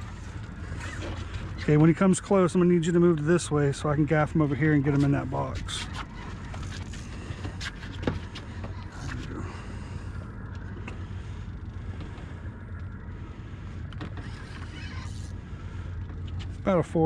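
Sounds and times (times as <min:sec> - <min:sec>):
outboard engine idling: 0:00.0 - 0:17.0.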